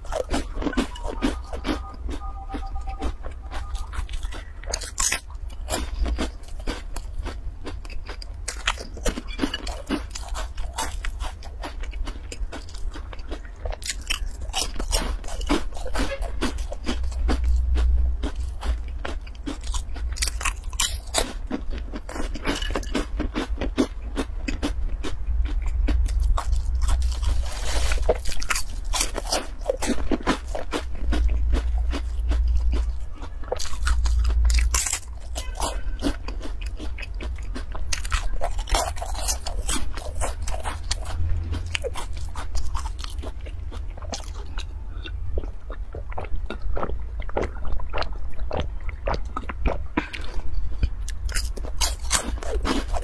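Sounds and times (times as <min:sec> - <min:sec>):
crunching and chewing crispy food: 0:00.0 - 0:53.0.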